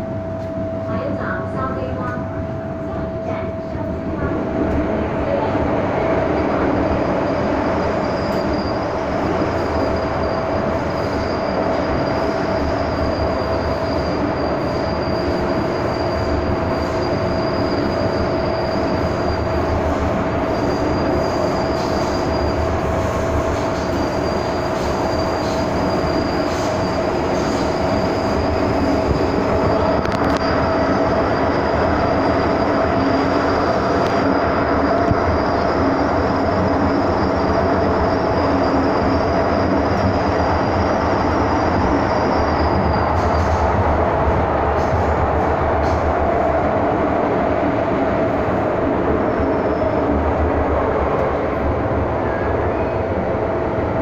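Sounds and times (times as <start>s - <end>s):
steady train whine: 0.0s - 54.0s
train wheels rumbling in tunnel: 0.0s - 54.0s.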